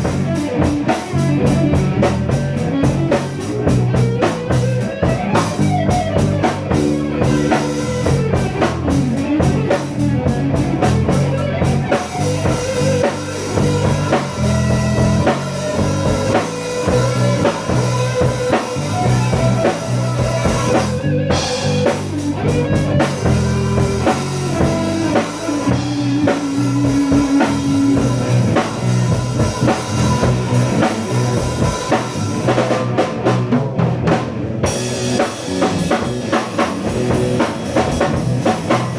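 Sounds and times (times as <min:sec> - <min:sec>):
bass guitar: 0:00.0 - 0:38.9
drum kit: 0:00.0 - 0:38.9
electric guitar: 0:00.0 - 0:38.9.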